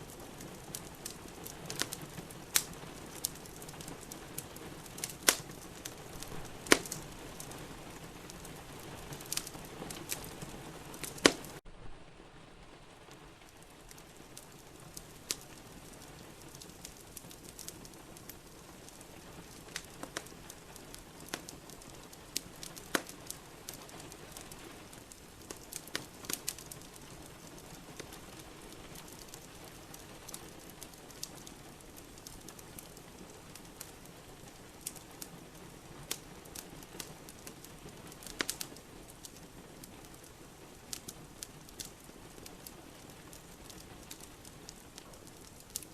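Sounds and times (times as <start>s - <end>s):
wood fire crackling and popping: 0.0s - 11.7s, 12.5s - 45.9s
rain hissing: 0.0s - 45.9s.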